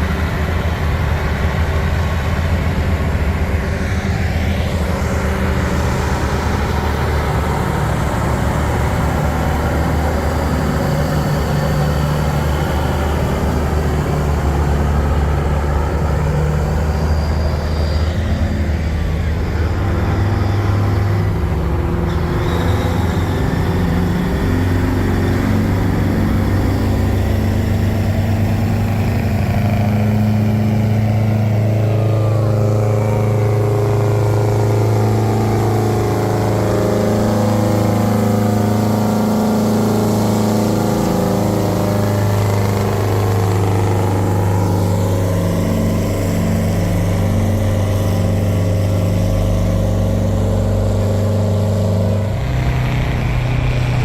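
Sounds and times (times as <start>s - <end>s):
diesel truck engines running: 0.0s - 54.0s.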